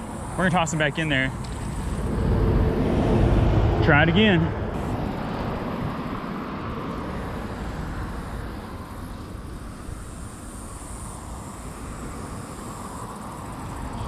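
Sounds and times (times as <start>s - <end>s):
road traffic rush: 0.0s - 14.0s.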